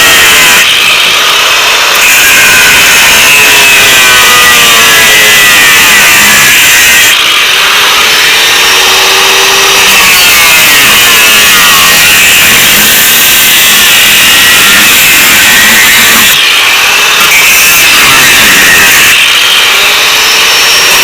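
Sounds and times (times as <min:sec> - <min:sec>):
cut-off wheel grinding metal: 0:00.0 - 0:21.0.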